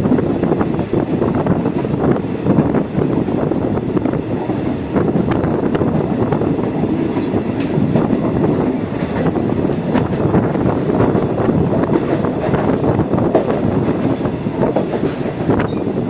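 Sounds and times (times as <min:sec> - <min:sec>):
train clicks and knocks: 0:00.0 - 0:16.0
train wheels rumbling on rails: 0:00.0 - 0:16.0.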